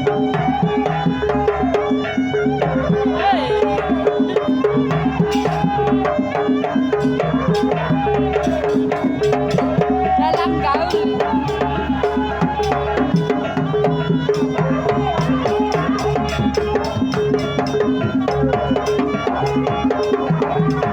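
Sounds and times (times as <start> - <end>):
gamelan music: 2.6 - 20.9.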